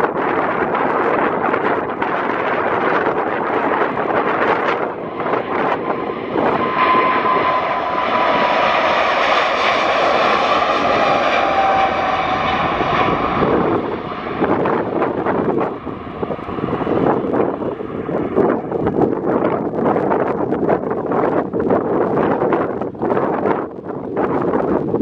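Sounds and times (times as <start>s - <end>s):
jet engines at takeoff thrust: 0.0s - 25.0s.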